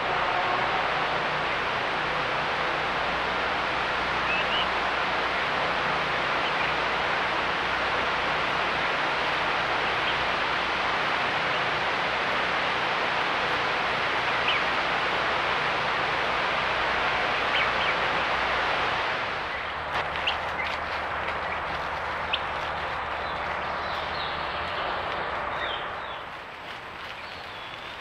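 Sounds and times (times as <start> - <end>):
microphone hiss: 0.0 - 28.0.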